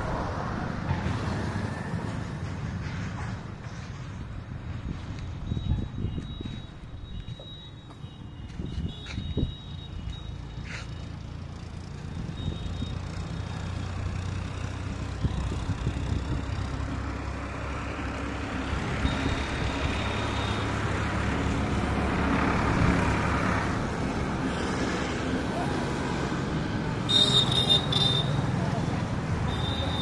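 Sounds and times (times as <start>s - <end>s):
passing traffic: 0.0s - 30.0s.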